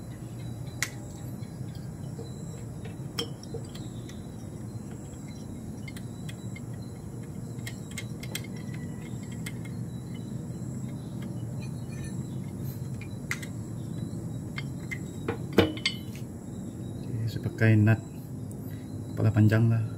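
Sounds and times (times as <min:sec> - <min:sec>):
light metal clicks: 0:00.0 - 0:16.2
low steady rumble: 0:00.0 - 0:19.2
crickets chirring: 0:00.0 - 0:19.9.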